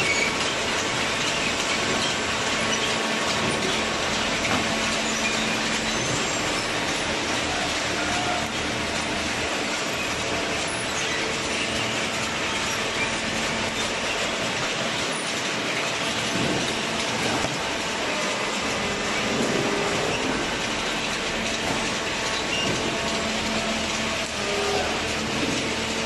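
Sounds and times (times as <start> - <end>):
faint machine clatter: 0.0 - 26.0.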